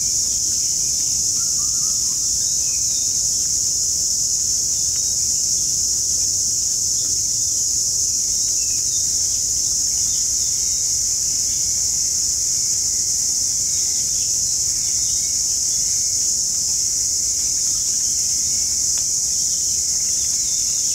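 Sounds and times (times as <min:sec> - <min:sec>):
high-pitched insect chorus: 0:00.0 - 0:20.9.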